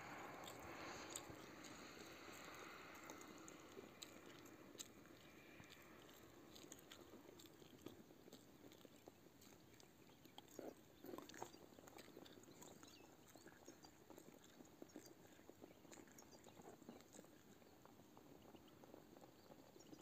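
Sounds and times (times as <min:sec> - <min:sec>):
small ticks and rustles: 0:00.0 - 0:20.0.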